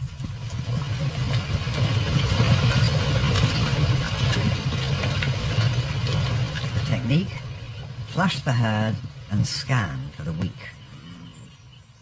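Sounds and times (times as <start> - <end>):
splashing through shallow water: 0.0 - 10.9
rumble of pounding hooves: 0.0 - 12.0.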